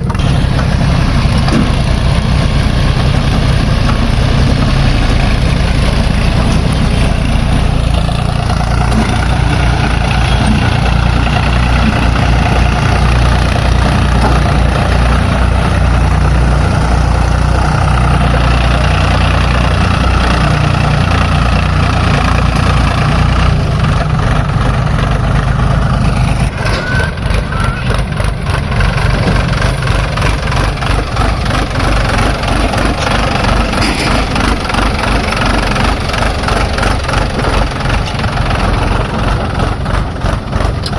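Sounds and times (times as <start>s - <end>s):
diesel engines droning: 0.0s - 40.9s.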